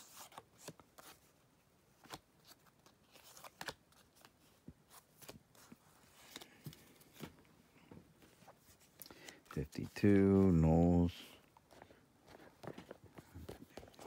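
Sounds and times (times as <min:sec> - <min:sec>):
cards rustling and clicking: 0:01.9 - 0:07.5, 0:08.2 - 0:14.0.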